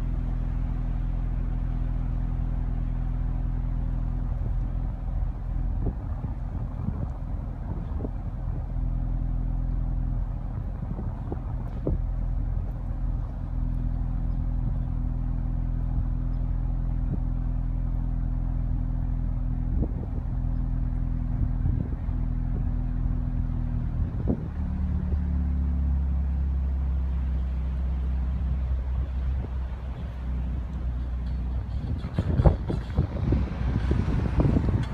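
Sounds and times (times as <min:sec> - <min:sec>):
car engine inside cabin: 0:00.0 - 0:34.9.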